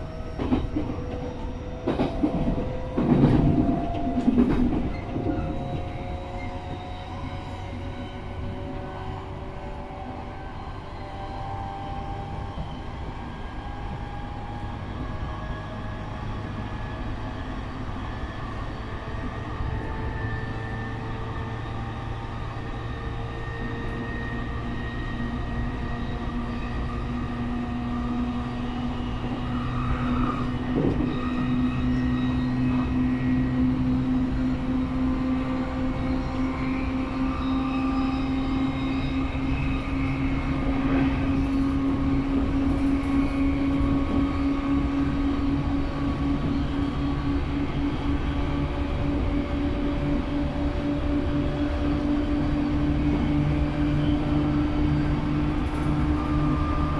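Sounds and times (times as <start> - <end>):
train wheel and rail rumble: 0.0 - 56.9.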